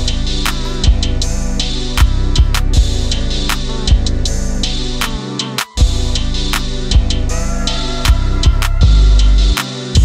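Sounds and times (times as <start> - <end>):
music with drums and heavy bass: 0.0 - 10.0.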